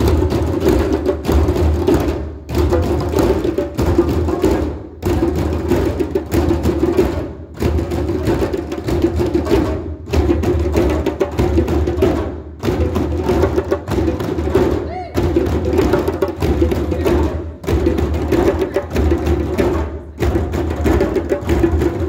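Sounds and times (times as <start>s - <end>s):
djembes drumming: 0.0s - 22.0s.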